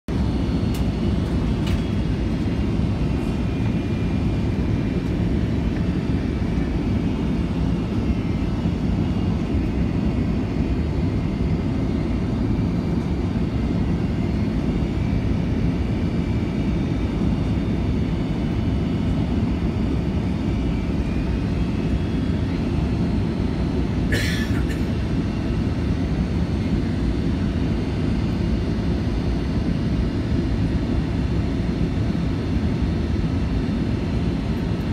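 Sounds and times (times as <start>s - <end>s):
airliner cabin engine rumble: 0.1s - 34.9s.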